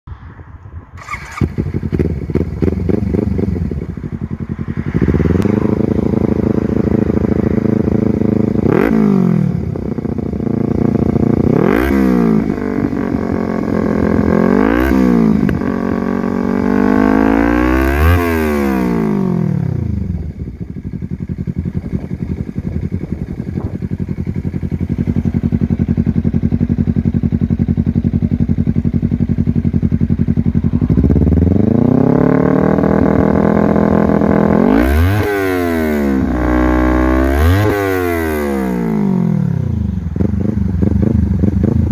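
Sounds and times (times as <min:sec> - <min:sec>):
motorcycle engine revving: 0:00.1 - 0:41.9
motorcycle engine idling: 0:01.0 - 0:17.4, 0:19.0 - 0:41.9.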